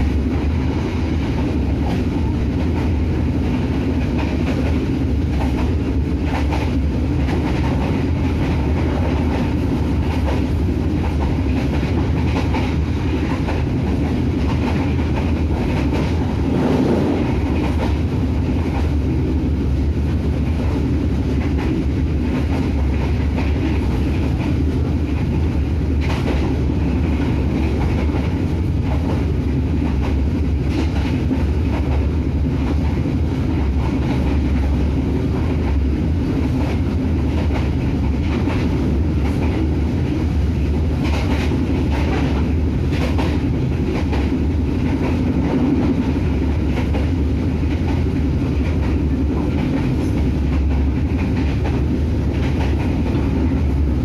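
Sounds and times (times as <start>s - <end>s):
train rumbling inside carriage: 0.0s - 54.0s.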